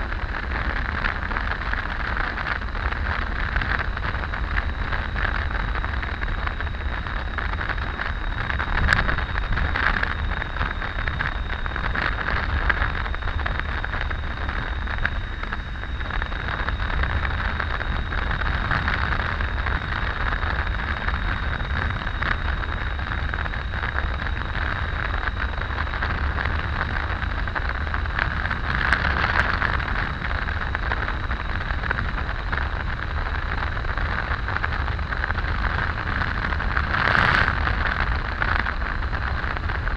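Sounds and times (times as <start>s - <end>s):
faint high whine: 0.0s - 39.9s
wind rush and road noise: 0.0s - 39.9s.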